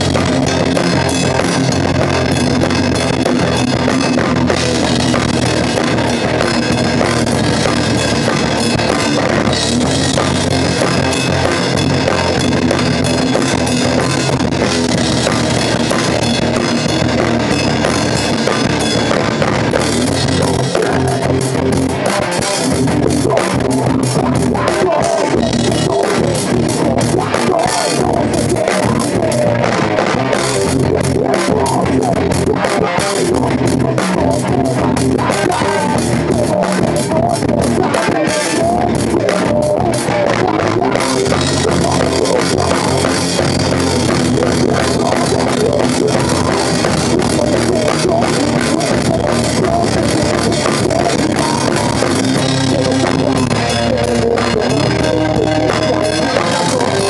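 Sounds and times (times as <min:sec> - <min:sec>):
drum hits: 0:00.0 - 0:57.0
metal band playing: 0:00.0 - 0:57.0.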